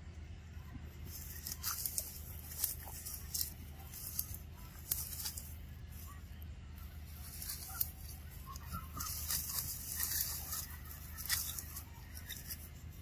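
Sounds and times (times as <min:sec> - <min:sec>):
leaf litter rustling: 0:01.0 - 0:13.0.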